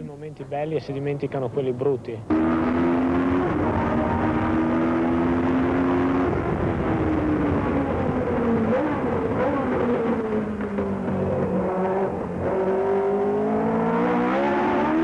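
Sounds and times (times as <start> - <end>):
racing car engine at high revs: 2.3 - 15.0.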